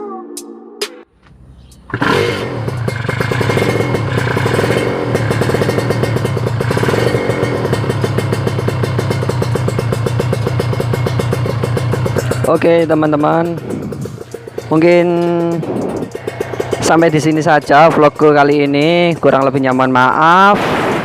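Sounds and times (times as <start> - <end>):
two-stroke motorcycle engine running: 1.3 - 20.4.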